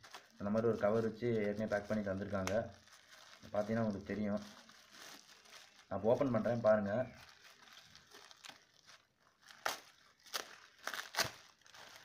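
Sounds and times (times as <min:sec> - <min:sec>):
bubble wrap crackles: 0:00.0 - 0:12.0
bubble wrap crinkling: 0:00.0 - 0:12.0.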